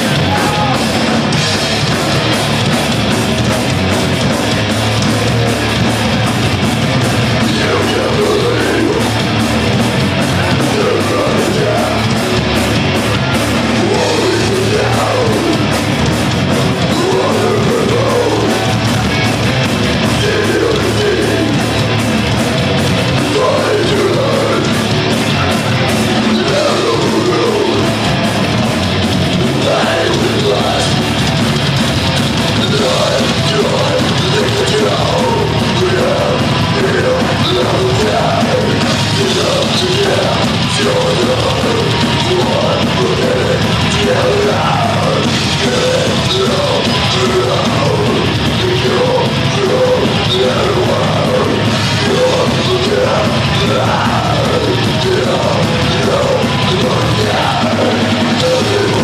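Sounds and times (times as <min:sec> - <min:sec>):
distorted electric guitars: 0:00.0 - 0:59.0
drums: 0:00.0 - 0:59.0
harsh yelled vocals: 0:00.0 - 0:59.0.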